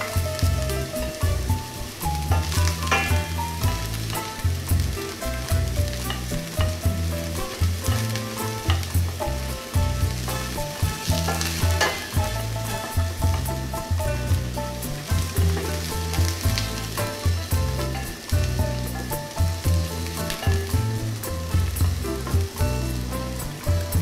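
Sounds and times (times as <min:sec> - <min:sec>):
wooden spoon stirring: 0:00.0 - 0:22.4
background music with bass line: 0:00.0 - 0:24.0
onion sizzling in frying pan: 0:00.0 - 0:24.0.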